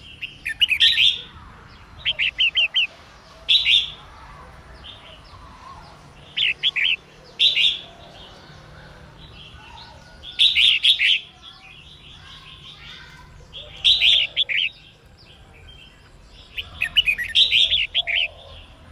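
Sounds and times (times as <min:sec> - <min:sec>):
bulbul chirping song: 0:00.0 - 0:18.9.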